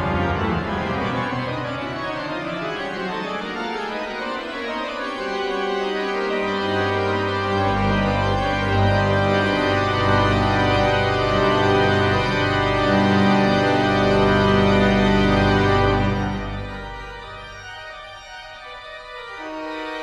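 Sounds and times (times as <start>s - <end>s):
low organ pedal notes: 0.0s - 20.0s
pipe organ sustained chords: 0.0s - 20.0s.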